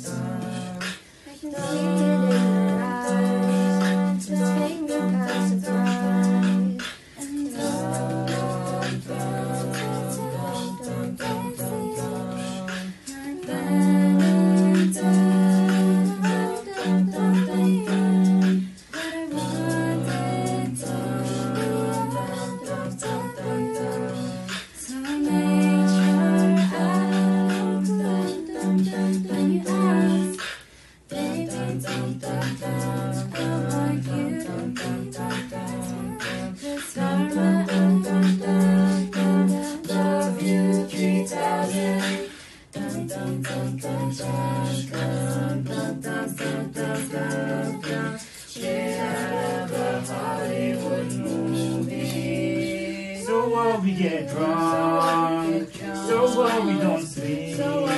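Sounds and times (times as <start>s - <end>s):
a cappella group singing: 0.0s - 57.9s
vocal percussive beat: 0.0s - 57.9s.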